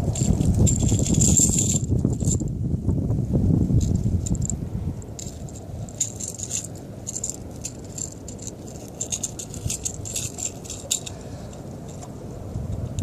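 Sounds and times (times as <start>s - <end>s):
fishing lure beads rattling: 0.1s - 2.4s, 3.8s - 12.1s.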